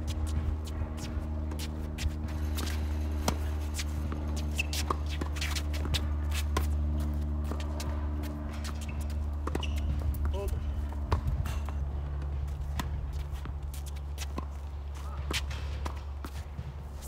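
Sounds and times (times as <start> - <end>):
ball bouncing on court: 0.0 - 17.0
steady low hum: 0.0 - 17.0
tennis ball off racket: 0.1 - 17.0.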